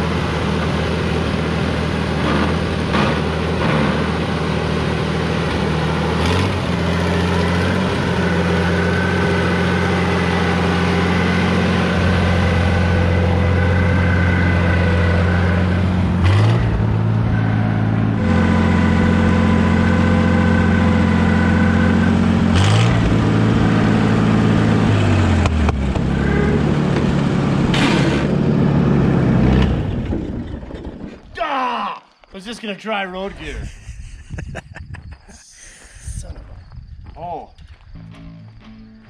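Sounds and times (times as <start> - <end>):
tractor engine running: 0.0 - 31.3.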